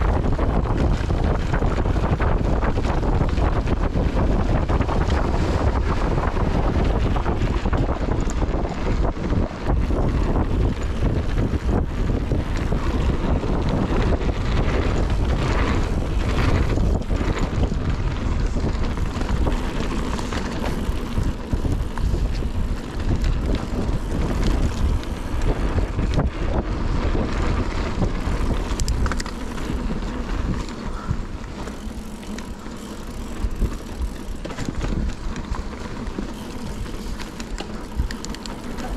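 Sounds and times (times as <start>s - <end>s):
bike rattling and clattering: 0.0s - 38.9s
bike tyre noise on dirt: 0.0s - 38.9s
wind buffeting microphone: 0.0s - 38.9s.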